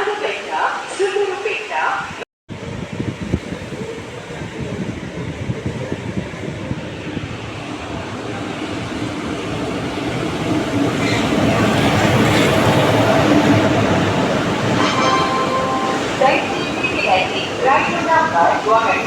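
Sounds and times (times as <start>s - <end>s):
train rumbling: 2.6s - 19.0s.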